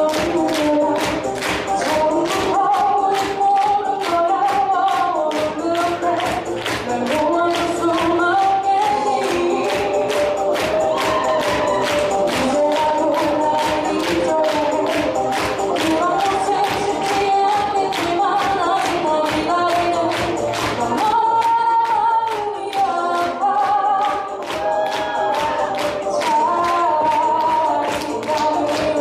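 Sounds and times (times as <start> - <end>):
girl singing into microphone: 0.0 - 10.1, 12.4 - 15.2, 15.8 - 29.0
pop backing track with beat: 0.0 - 29.0.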